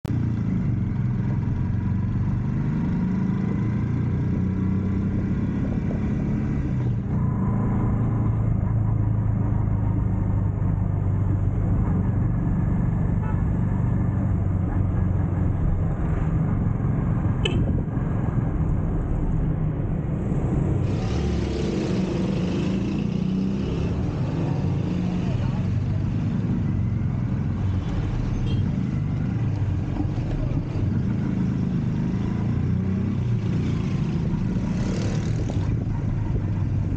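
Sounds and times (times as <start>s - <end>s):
road noise: 0.0s - 36.9s
vehicle engine rumble: 0.0s - 36.9s.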